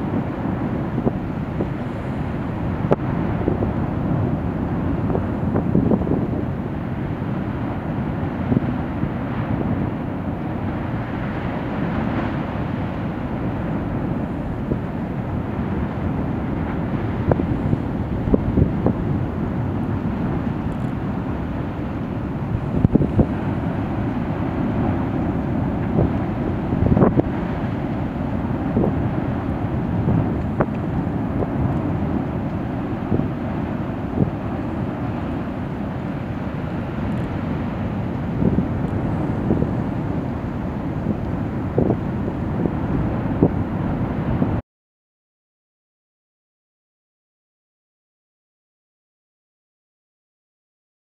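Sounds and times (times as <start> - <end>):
lava lake boiling rumble: 0.0 - 44.6.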